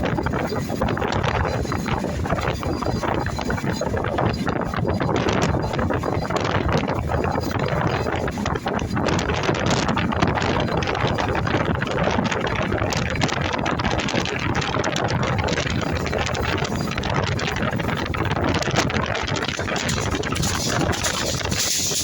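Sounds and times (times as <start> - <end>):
train running: 0.0 - 22.0
wind on microphone: 0.0 - 22.0.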